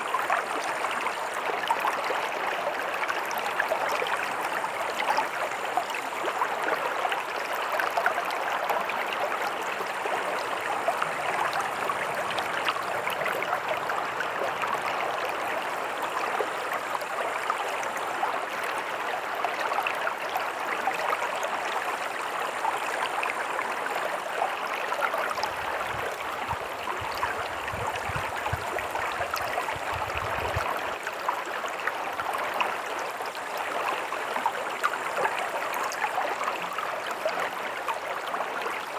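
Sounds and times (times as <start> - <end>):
stream gurgling over rocks: 0.0 - 38.9.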